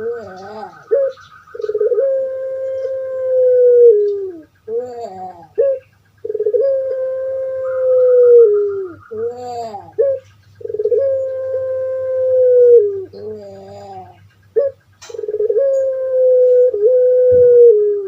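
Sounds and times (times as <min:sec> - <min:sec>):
dove cooing: 0:00.0 - 0:18.0
faint low hum: 0:00.0 - 0:18.0.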